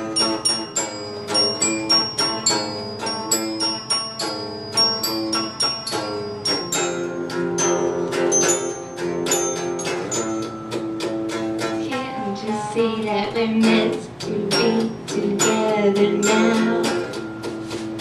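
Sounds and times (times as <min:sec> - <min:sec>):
live band music: 0:00.0 - 0:12.5, 0:13.7 - 0:18.0
electric guitar picking notes: 0:00.0 - 0:18.0.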